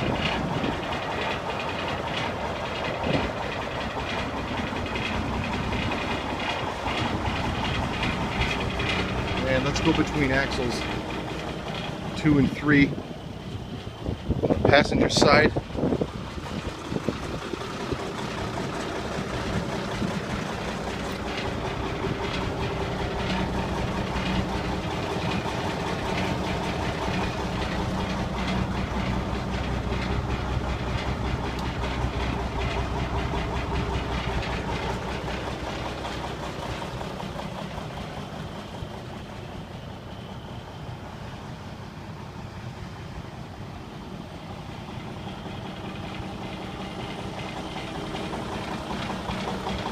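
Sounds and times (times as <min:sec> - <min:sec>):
diesel truck idling: 0:00.0 - 0:49.9.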